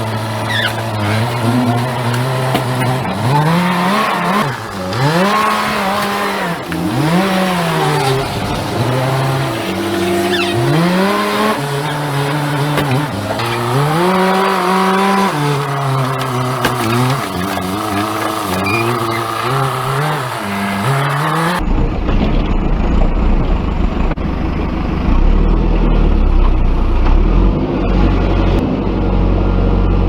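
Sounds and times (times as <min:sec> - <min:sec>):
diesel engine revving: 0:00.0 - 0:30.0.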